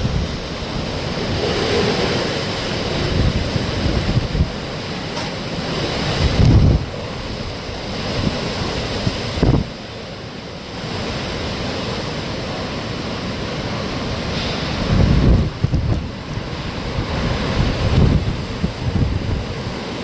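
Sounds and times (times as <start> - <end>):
storm wind rushing: 0.0 - 9.8, 13.4 - 20.0
wind buffeting microphone: 0.0 - 9.8, 13.1 - 20.0.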